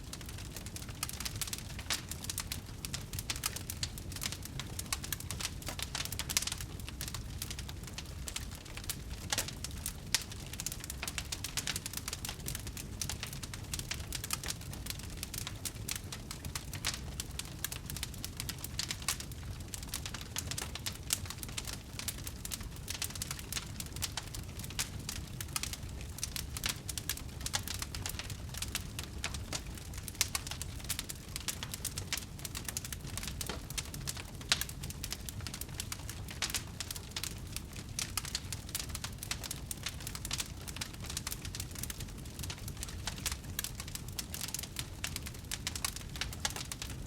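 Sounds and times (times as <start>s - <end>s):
low rumble of flame: 0.0s - 47.0s
wood fire crackling: 0.0s - 47.0s.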